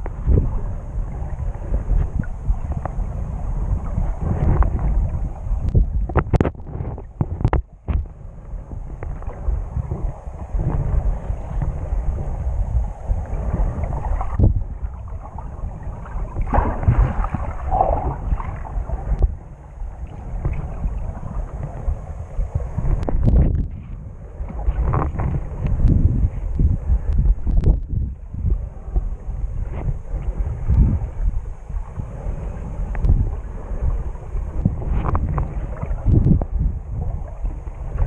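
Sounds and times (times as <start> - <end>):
underwater rumble of moving water: 0.0 - 38.0.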